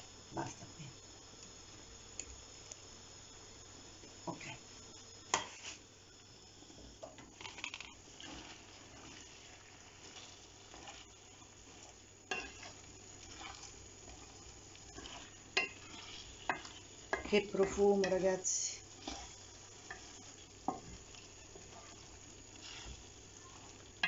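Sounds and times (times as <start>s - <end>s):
faint sizzle in pan: 0.0s - 24.0s.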